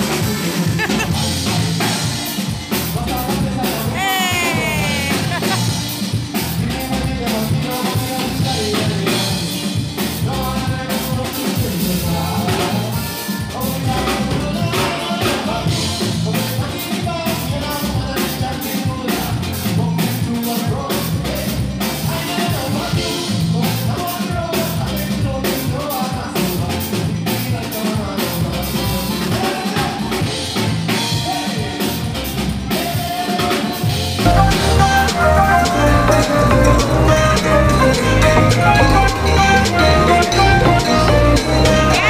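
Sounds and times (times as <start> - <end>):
band music with singer: 0.0 - 42.0.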